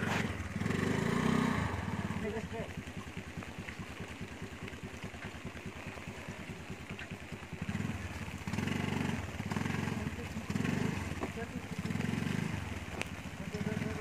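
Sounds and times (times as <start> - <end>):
scooter engine puttering and revving: 0.0 - 14.0.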